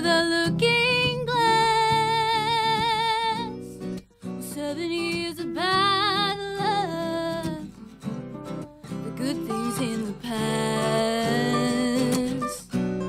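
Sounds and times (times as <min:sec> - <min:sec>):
woman singing with vibrato: 0:00.0 - 0:03.8, 0:04.4 - 0:07.7, 0:09.1 - 0:12.7
strummed acoustic guitar: 0:00.0 - 0:13.0.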